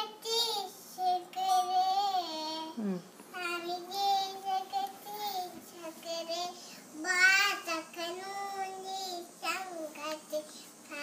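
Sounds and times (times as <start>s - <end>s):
girl singing devotional song: 0.0s - 11.0s.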